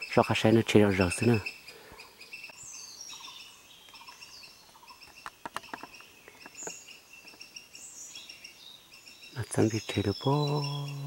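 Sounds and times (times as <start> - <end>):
birds chirping and warbling: 0.0 - 11.0.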